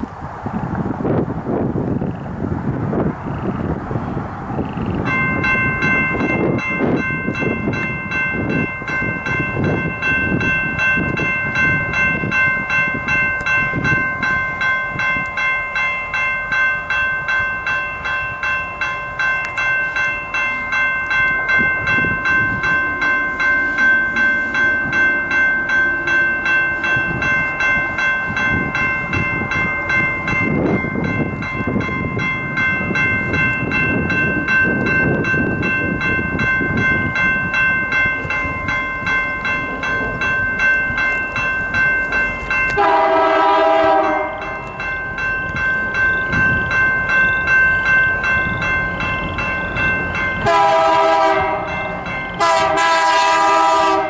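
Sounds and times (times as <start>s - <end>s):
train rumble: 0.0s - 54.0s
railroad crossing bell ringing: 0.8s - 54.0s.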